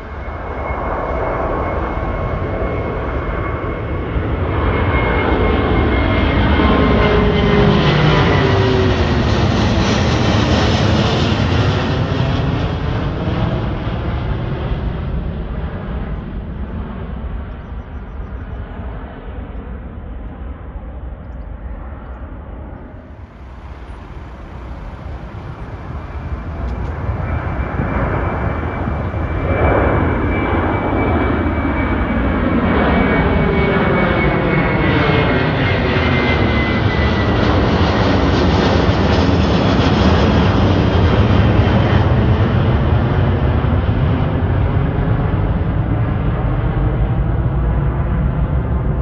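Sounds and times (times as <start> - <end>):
high engine whine: 0.0 - 49.0
jet engines at takeoff power: 0.0 - 49.0.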